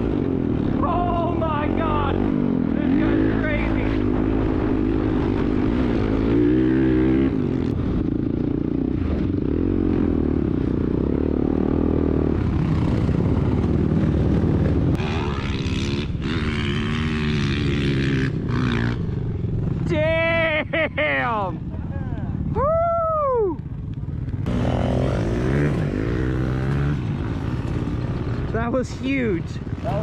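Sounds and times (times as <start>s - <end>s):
dirt bike engine revving: 0.0s - 21.7s, 24.1s - 30.0s.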